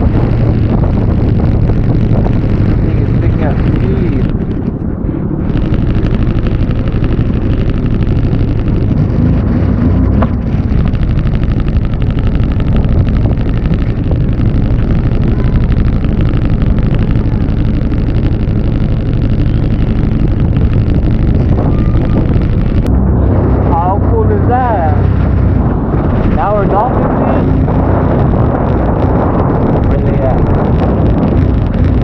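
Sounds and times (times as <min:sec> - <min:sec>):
jet ski engine drone: 0:00.0 - 0:32.0
wind: 0:00.0 - 0:32.0.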